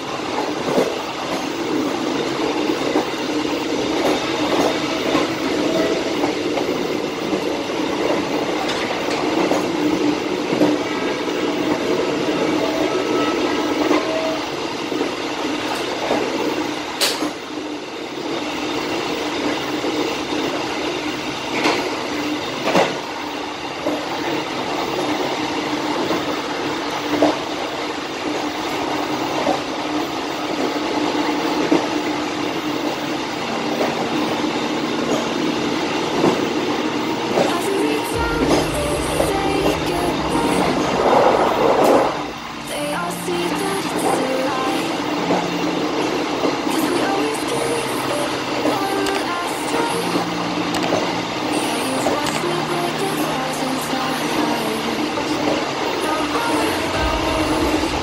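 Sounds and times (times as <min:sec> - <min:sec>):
train wheels rumbling on rail: 0:00.0 - 0:53.4, 0:54.2 - 0:58.0.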